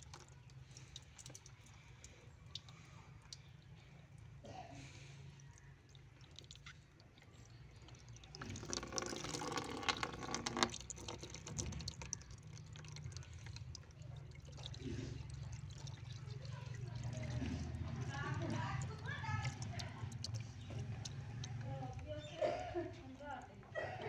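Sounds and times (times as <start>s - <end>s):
water pouring and splashing: 0.0s - 4.4s, 5.1s - 23.6s.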